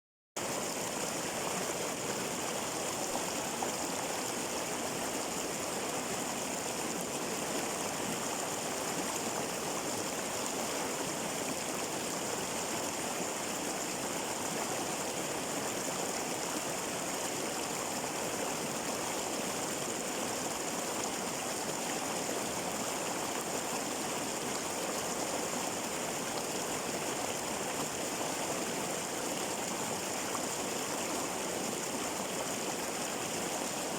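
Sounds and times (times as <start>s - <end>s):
flowing water: 0.4s - 33.9s.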